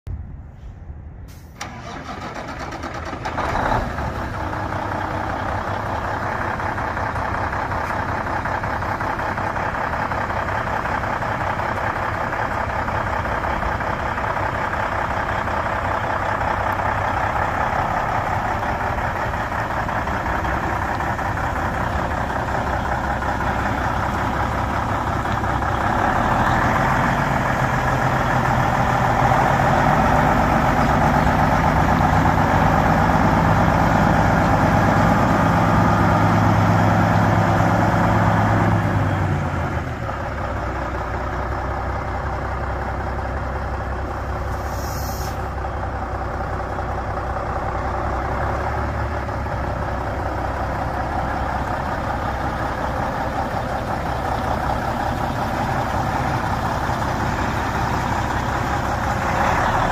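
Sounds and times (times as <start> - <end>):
diesel truck engine starting and idling: 0.1 - 59.9.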